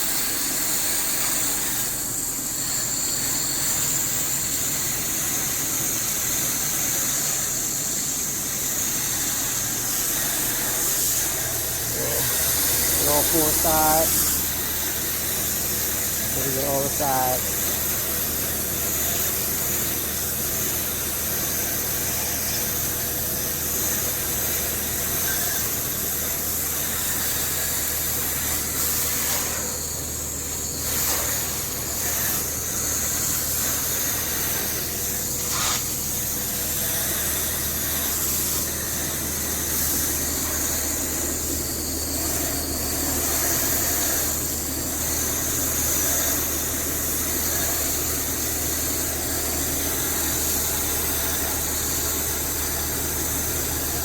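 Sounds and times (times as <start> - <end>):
garden hose spraying water: 0.0 - 54.0.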